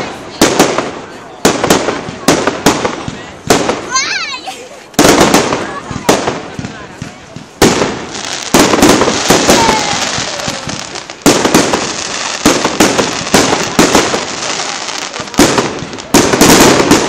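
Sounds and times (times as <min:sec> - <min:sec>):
fireworks bursting with crackle: 0:00.0 - 0:17.0.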